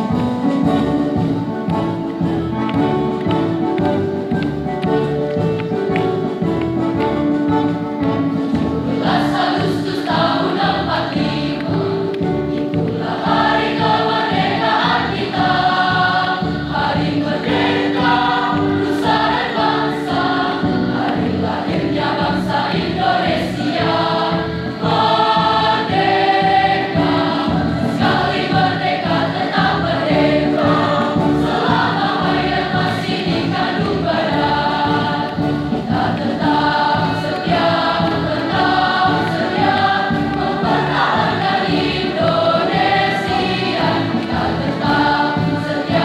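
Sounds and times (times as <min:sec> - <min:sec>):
choir singing in parts: 0:00.0 - 0:46.0.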